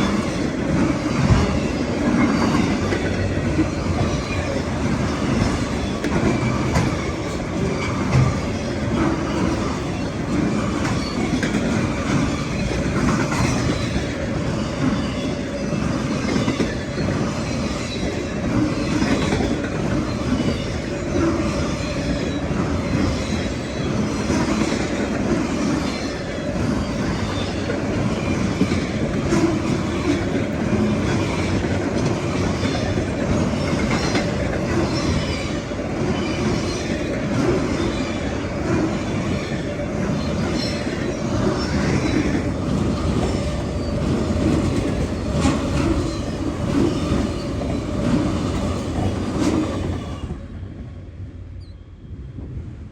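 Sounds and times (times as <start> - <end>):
freight train wheels rumbling: 0.0 - 52.9.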